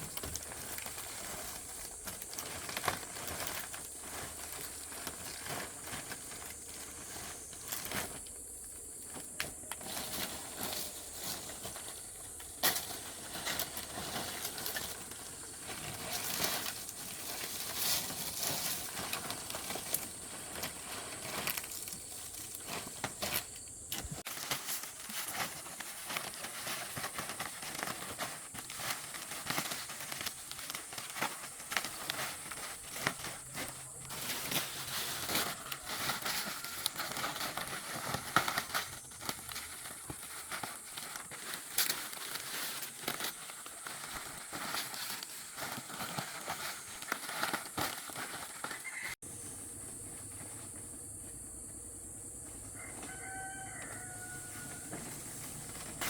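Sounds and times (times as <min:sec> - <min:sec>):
palm leaves rustling and crackling: 0:00.0 - 0:50.9, 0:52.4 - 0:56.0.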